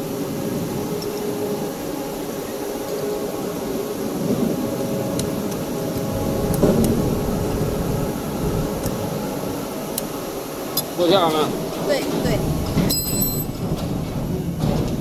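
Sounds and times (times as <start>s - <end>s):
factory machinery hum: 0.0s - 15.0s.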